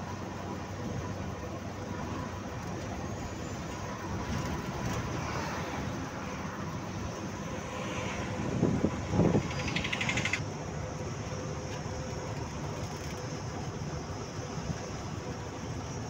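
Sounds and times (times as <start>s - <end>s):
passing truck: 0.0s - 16.0s
road and engine noise: 0.0s - 16.0s.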